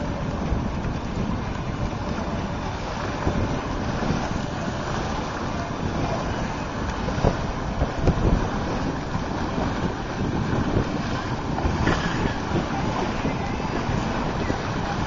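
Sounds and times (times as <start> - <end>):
water slapping along hull: 0.0 - 15.0
wind buffeting microphone: 0.0 - 15.0.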